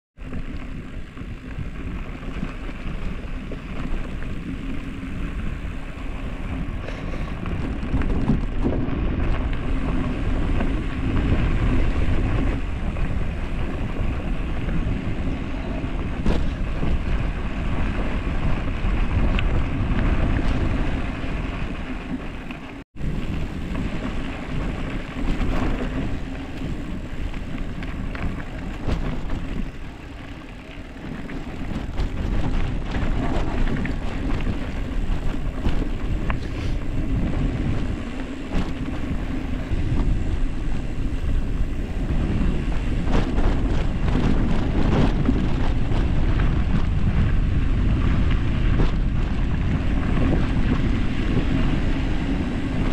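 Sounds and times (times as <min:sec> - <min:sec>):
tyres rumbling on dirt road: 0:00.2 - 0:52.9
wind rushing over microphone: 0:00.2 - 0:52.9.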